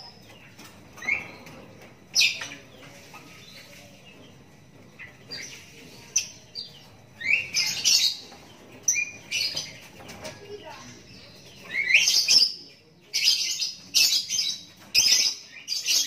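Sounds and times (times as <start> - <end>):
bird chick chirping: 0.0 - 16.0.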